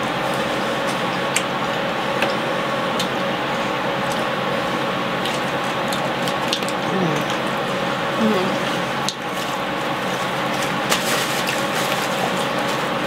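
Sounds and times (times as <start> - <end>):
faint hum: 0.0 - 13.0
people chewing: 0.3 - 13.0.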